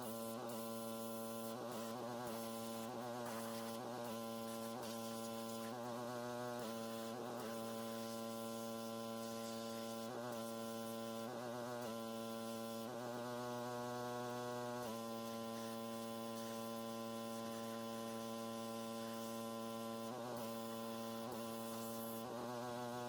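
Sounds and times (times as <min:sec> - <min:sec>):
pressure washer buzzing: 0:00.0 - 0:11.2, 0:14.8 - 0:23.0.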